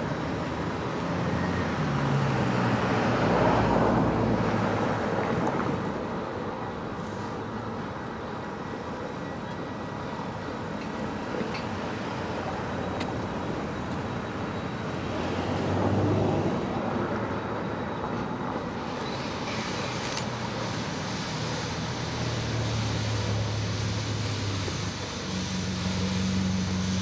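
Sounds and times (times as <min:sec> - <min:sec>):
large vehicle rumble: 0:00.0 - 0:27.0.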